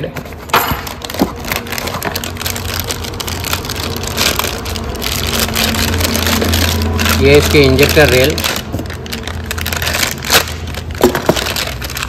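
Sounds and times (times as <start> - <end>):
plastic bag crinkling: 0.3 - 12.0.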